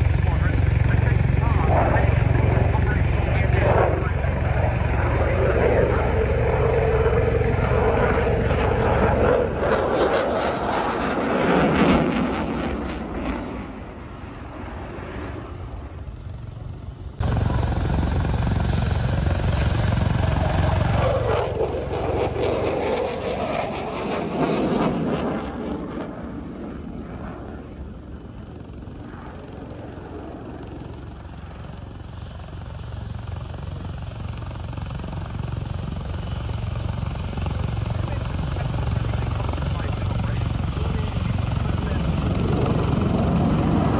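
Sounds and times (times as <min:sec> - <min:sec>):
fighter jet flying overhead: 0:00.0 - 0:43.9.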